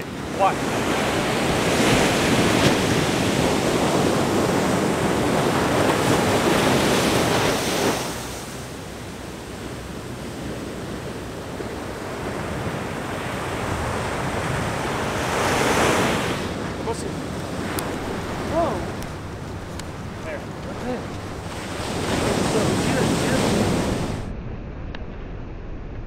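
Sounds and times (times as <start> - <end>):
surf breaking over rocks: 0.0 - 24.3
wind buffeting microphone: 0.0 - 24.7.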